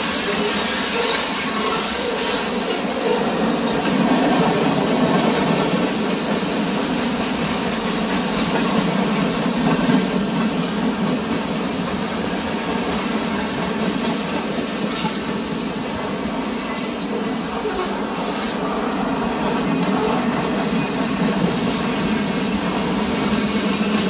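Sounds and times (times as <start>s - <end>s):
freight train wheels rumbling on rail: 0.0s - 24.0s.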